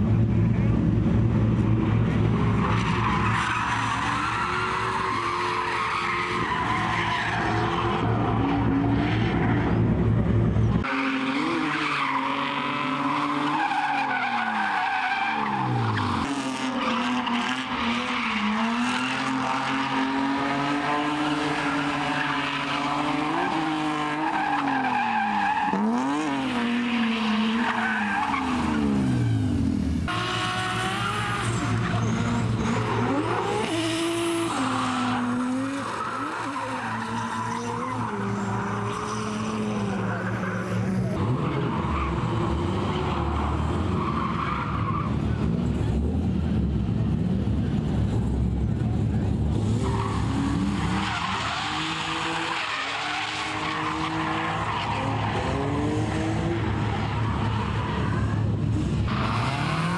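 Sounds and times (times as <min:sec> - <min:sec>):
car engines revving hard: 0:00.0 - 0:59.9
tyres squealing and skidding: 0:02.2 - 0:46.0, 0:48.4 - 0:59.9.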